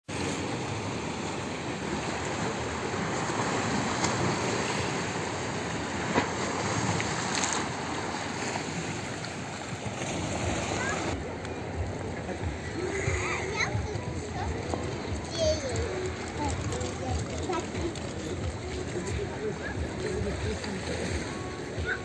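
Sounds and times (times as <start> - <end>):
sea water and small waves: 0.1 - 22.0.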